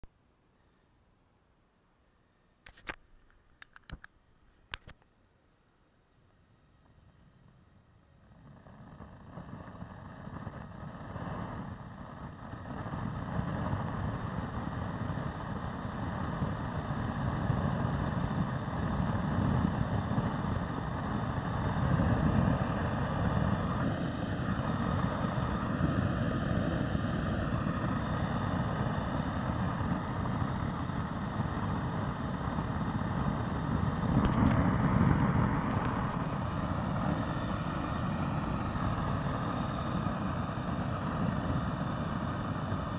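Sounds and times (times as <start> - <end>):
gas burner roaring: 7.4 - 42.9.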